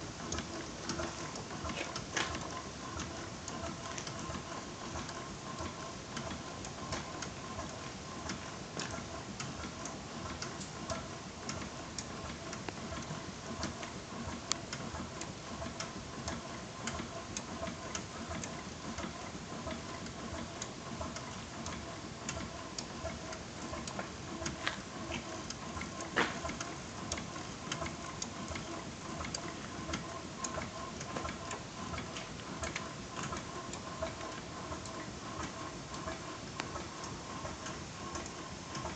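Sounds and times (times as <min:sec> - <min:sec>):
model steam engine clicking: 0:00.0 - 0:38.9.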